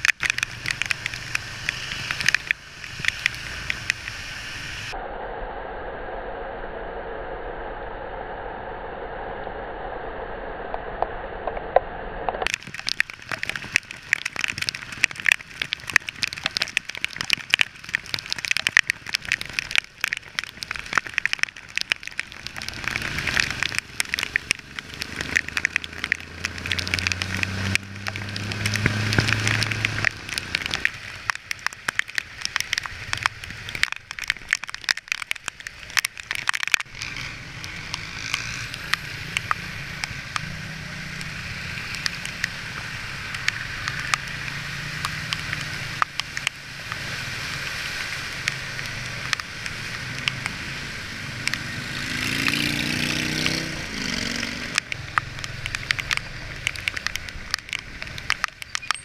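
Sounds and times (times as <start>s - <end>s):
heavy rain hitting camera: 0.0s - 5.0s, 12.4s - 59.0s
vehicle engine hum: 0.0s - 5.0s, 12.3s - 34.2s, 36.4s - 59.0s.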